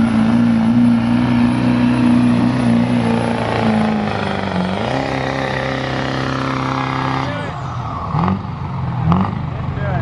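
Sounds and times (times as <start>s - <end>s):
diesel truck engine at full throttle: 0.0s - 10.0s.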